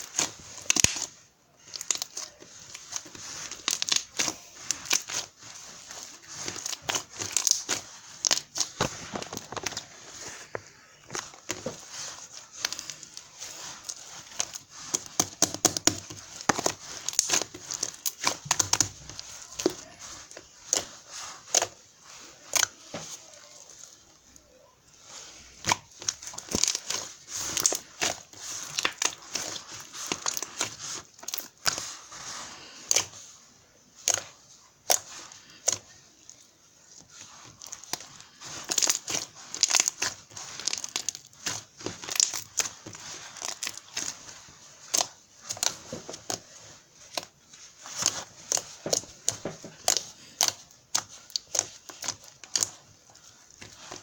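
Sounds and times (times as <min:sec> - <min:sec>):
crinkling and rustling: 0:00.0 - 0:54.0.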